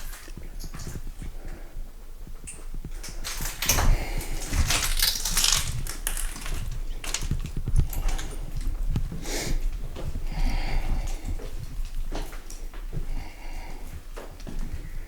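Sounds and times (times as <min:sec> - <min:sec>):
footsteps crunching over debris: 0:00.0 - 0:01.6, 0:02.2 - 0:15.0.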